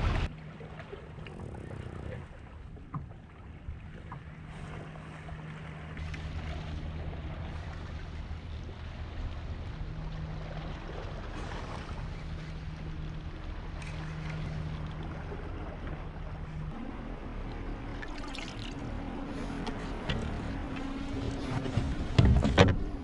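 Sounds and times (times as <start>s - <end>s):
water noise: 0.0s - 23.0s
electric outboard motor humming: 4.2s - 23.0s.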